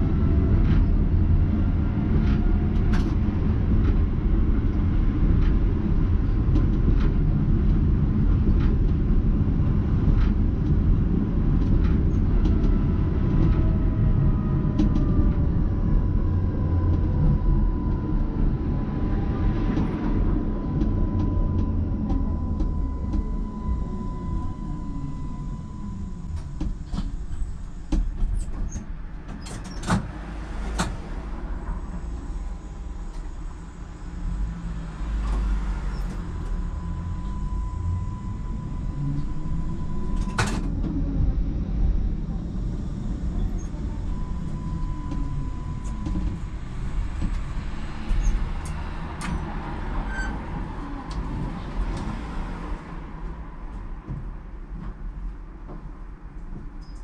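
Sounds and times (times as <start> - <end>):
tram motor whine: 0.0 - 53.9
tram wheels rumbling: 0.0 - 56.8.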